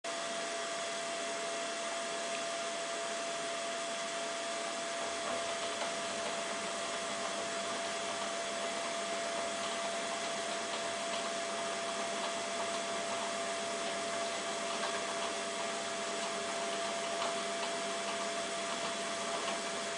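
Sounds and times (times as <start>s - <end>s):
milling machine whooshing and whining: 0.1s - 19.9s.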